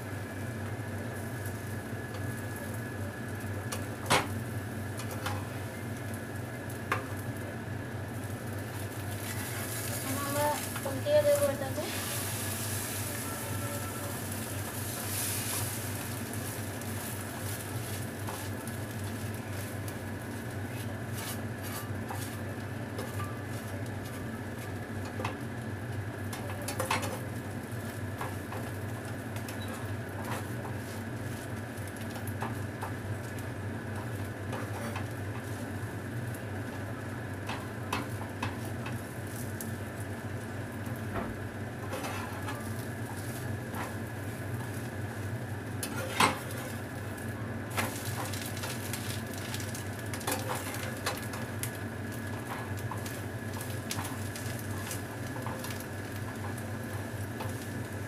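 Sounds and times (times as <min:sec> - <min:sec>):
flatbread sizzling in a pan: 0:00.0 - 0:58.0.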